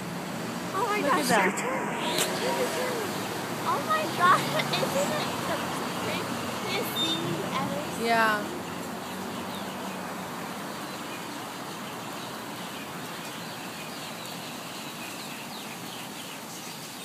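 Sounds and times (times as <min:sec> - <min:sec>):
flock of starlings calling: 0:00.8 - 0:17.0.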